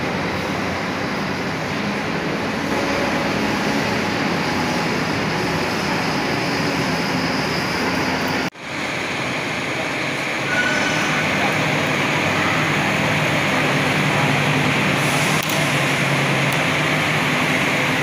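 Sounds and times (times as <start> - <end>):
diesel bus engine passing: 0.0 - 18.0
vehicle noise: 0.0 - 18.0.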